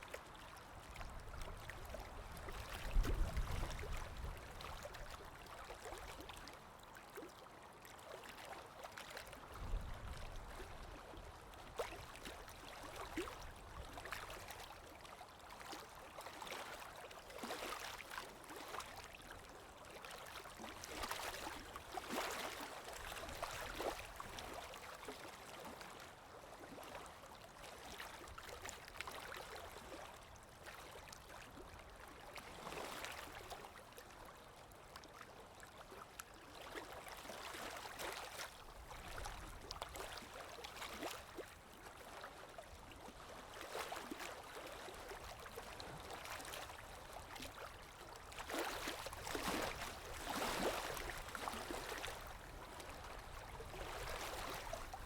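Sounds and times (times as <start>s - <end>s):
water lapping: 0.2s - 55.0s.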